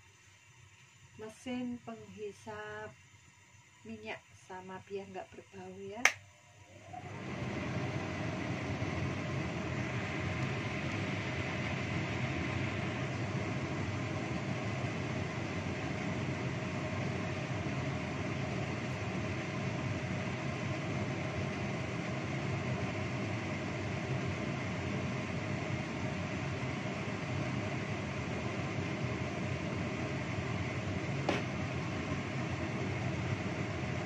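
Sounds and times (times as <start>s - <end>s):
extractor fan whirring: 3.8s - 34.0s.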